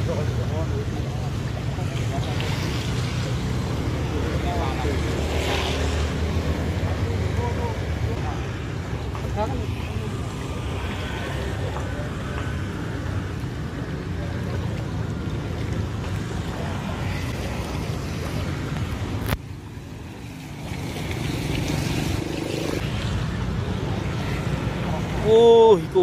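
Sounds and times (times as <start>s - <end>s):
road traffic rumble: 0.0s - 26.0s
wind: 0.0s - 26.0s.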